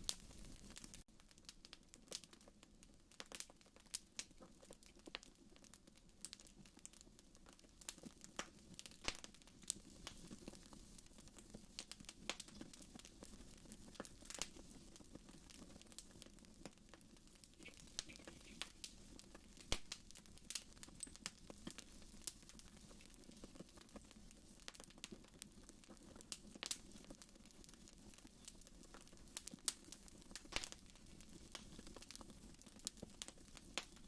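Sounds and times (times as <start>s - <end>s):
wood fire crackling and popping: 0.0s - 34.0s.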